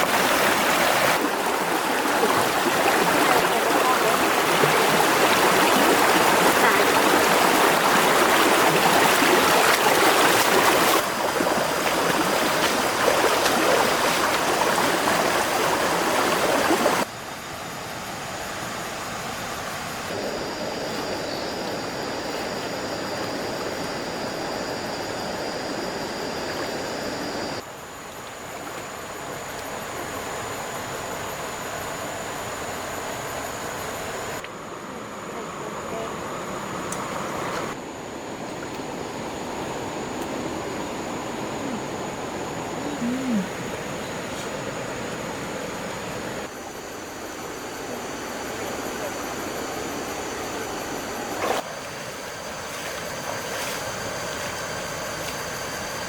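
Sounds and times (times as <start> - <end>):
stream water rushing: 0.0 - 17.1, 17.8 - 56.0.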